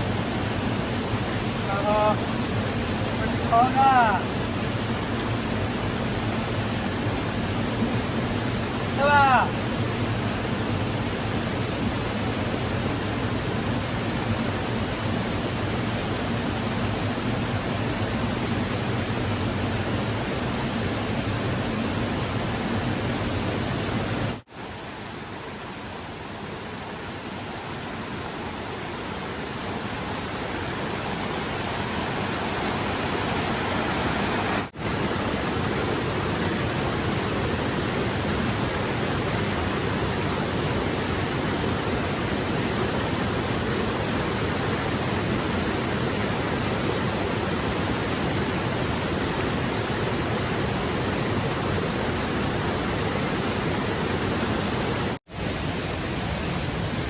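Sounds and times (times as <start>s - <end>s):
mountain stream rushing: 0.0s - 57.0s.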